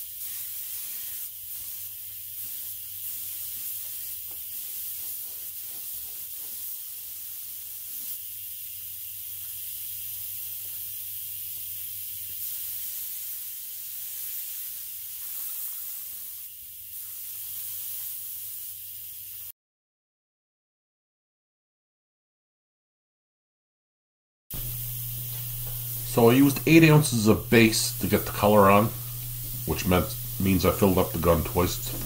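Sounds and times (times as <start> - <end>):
spray gun hissing: 0.0 - 19.5, 24.6 - 32.0.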